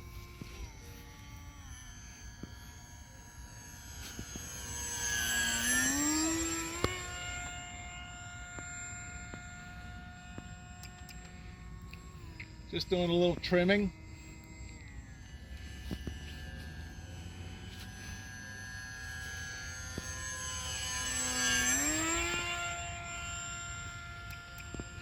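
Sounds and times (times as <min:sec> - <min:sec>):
model plane motor whining: 0:00.0 - 0:25.0.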